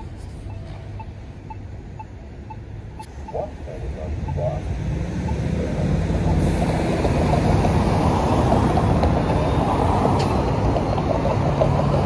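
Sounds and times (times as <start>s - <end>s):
traffic driving past: 0.0s - 12.0s.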